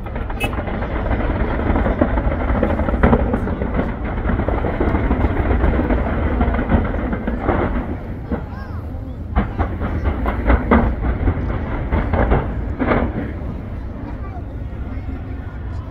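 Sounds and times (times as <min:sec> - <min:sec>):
sharp firework bang: 0:00.0 - 0:15.1
fireworks booming and crackling: 0:00.0 - 0:15.9.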